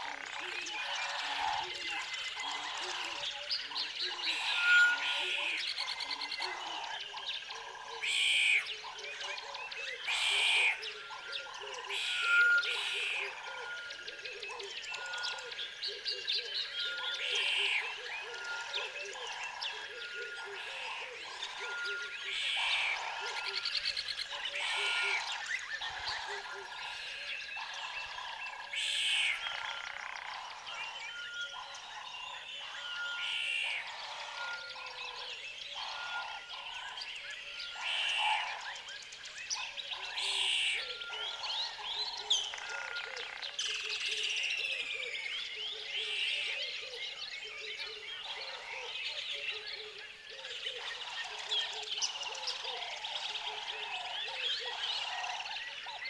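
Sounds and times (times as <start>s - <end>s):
birds chirping and calling: 0.0s - 56.0s
frogs croaking: 0.0s - 56.0s.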